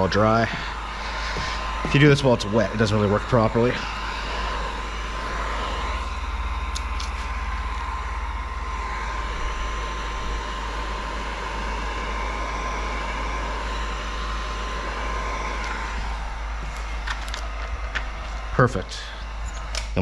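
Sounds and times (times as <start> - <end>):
heat gun blowing: 0.0 - 20.0.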